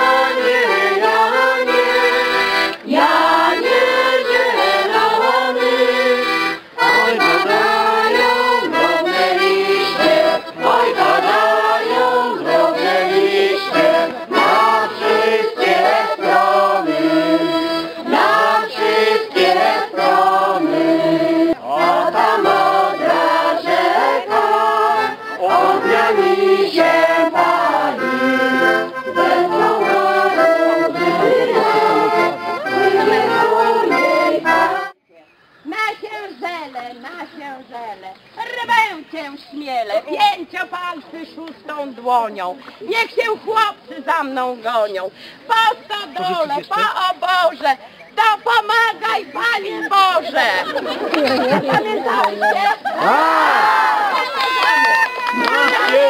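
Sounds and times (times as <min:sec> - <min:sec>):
accordion playing folk song: 0:00.0 - 0:35.0, 0:40.0 - 0:53.4.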